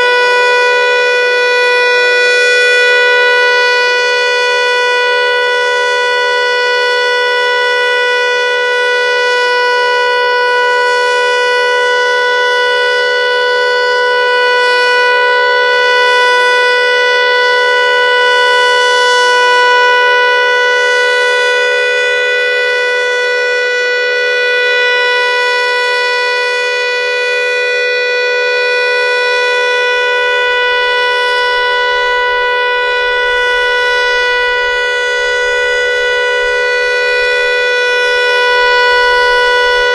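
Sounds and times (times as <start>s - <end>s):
buzzing from siren: 0.0s - 39.9s
outdoor warning siren steady tone: 0.0s - 39.9s.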